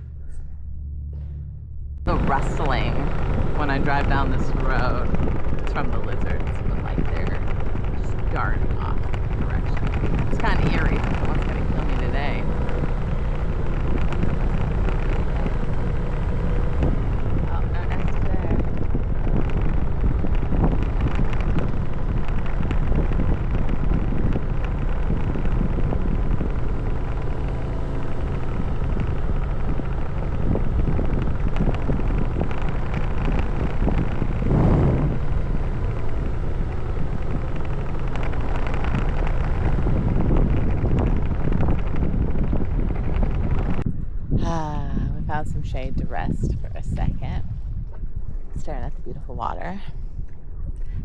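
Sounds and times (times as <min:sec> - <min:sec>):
scooter engine running: 0:00.0 - 0:49.7
wind buffeting microphone: 0:02.0 - 0:51.0.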